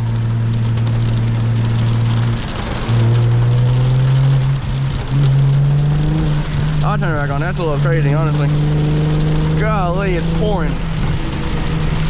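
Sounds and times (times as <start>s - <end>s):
car engine accelerating: 0.0s - 12.0s
heavy rain hissing on car: 0.0s - 12.0s.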